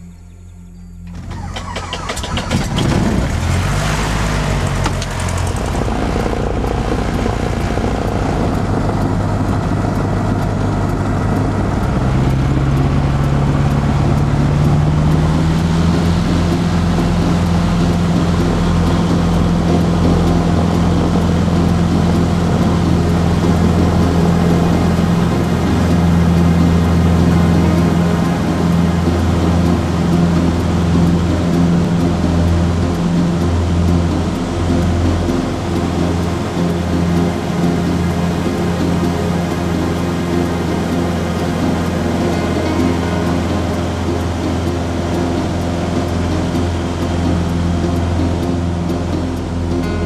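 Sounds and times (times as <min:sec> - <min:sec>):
light aircraft engine and propeller: 0:00.0 - 0:50.0.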